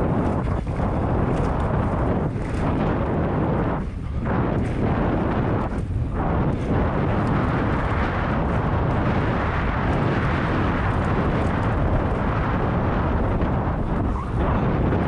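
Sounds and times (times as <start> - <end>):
bike tyres rolling on dirt: 0.0 - 15.0
wind buffeting microphone: 0.0 - 15.0.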